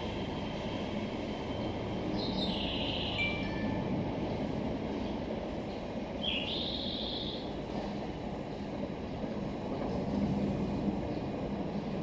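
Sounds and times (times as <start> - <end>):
distant electric train rumble: 0.0 - 12.0.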